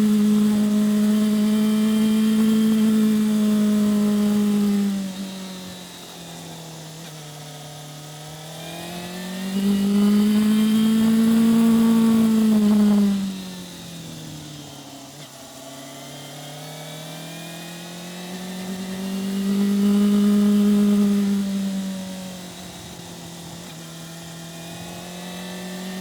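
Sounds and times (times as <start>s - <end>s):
motorcycle engine riding: 0.0s - 26.0s.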